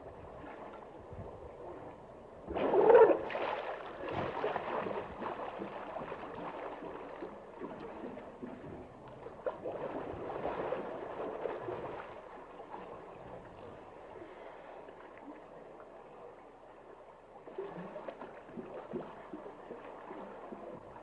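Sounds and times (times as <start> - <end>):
water gurgling and sloshing: 0.0 - 21.0.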